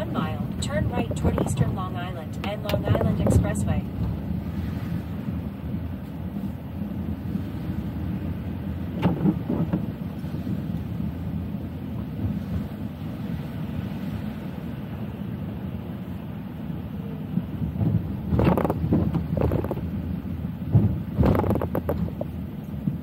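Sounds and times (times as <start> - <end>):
car driving rumble inside cabin: 0.0 - 23.0.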